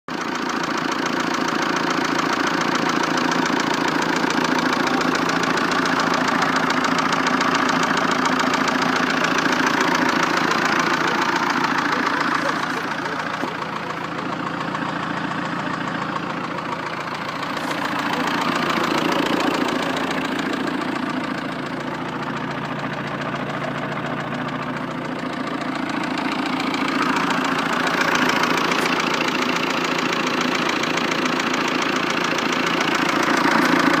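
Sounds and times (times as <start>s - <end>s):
diesel engine idling: 0.1s - 34.0s
engine knock: 0.1s - 34.0s.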